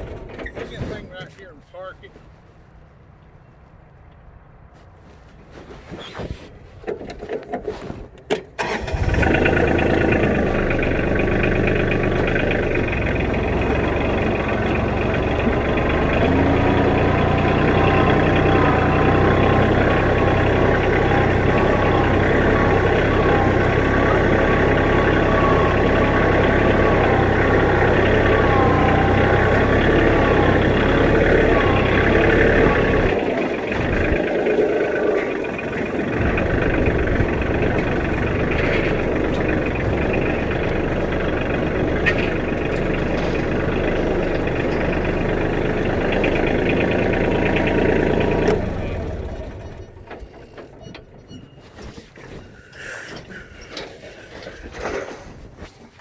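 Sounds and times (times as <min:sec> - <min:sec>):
engine cranking and running: 0:00.0 - 0:01.6, 0:06.8 - 0:55.6.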